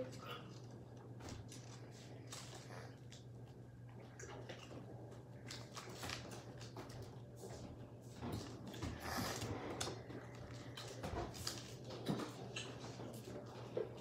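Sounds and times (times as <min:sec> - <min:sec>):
rustling and handling noises: 0:00.0 - 0:14.0
steady low hum: 0:00.0 - 0:14.0.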